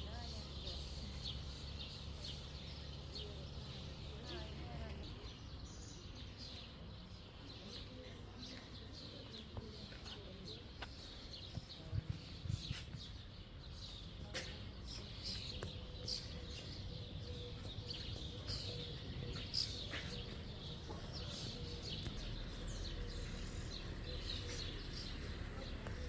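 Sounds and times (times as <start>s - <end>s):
small birds chirping and singing: 0.0s - 26.0s.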